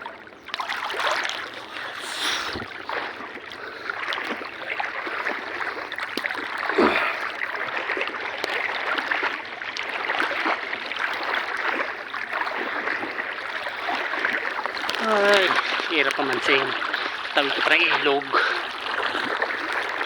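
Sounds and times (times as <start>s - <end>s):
water splashing from wading: 0.0s - 20.0s.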